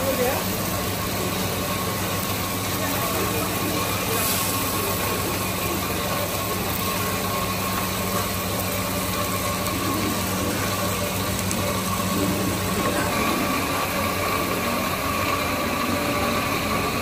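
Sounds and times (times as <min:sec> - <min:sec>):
motor humming with whine: 0:00.0 - 0:17.0.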